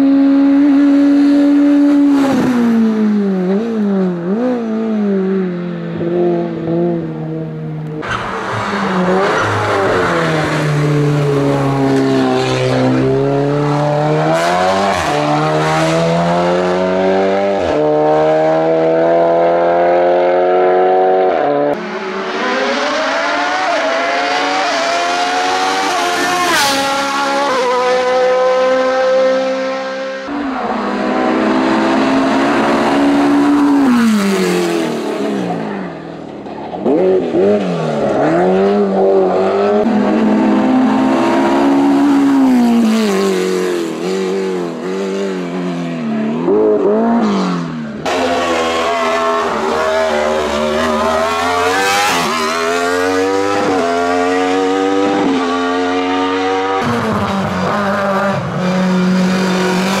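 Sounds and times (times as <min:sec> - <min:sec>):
race car engines accelerating: 0:00.0 - 1:00.0.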